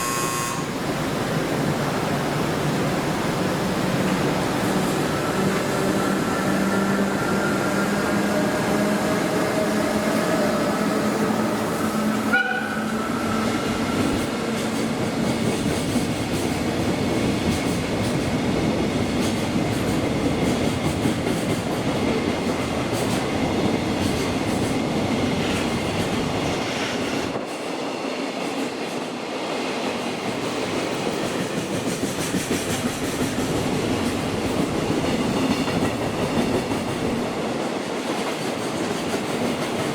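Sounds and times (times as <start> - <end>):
freight wagons passing on rails: 0.0 - 39.9.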